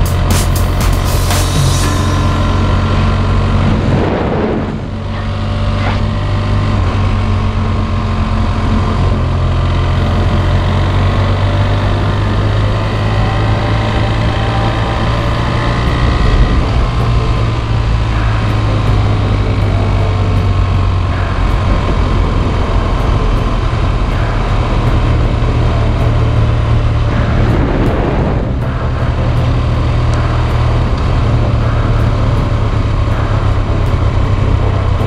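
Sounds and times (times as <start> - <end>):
motorcycle engine running: 0.0 - 35.0
road noise: 0.0 - 35.0
wind noise: 0.0 - 35.0.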